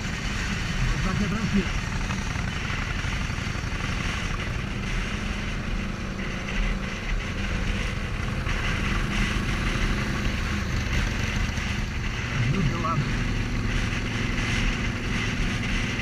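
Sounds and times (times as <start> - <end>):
motorcycle engine running: 0.0 - 16.0
wind and road rush: 0.0 - 16.0.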